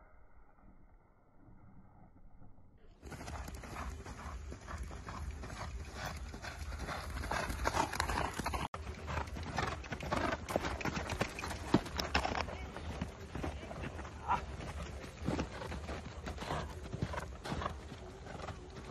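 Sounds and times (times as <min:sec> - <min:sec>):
horse hoofbeats on sand: 0:03.0 - 0:18.9.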